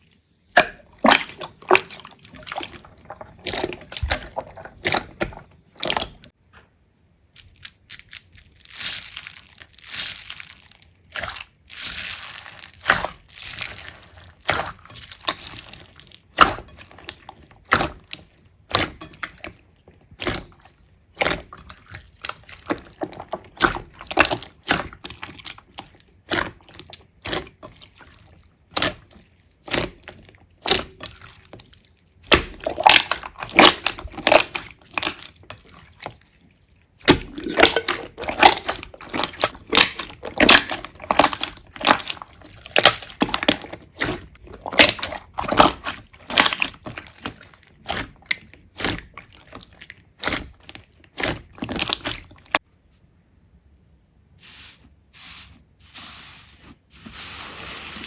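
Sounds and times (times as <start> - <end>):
slime crackling and squelching: 0.0 - 6.4, 7.3 - 52.6.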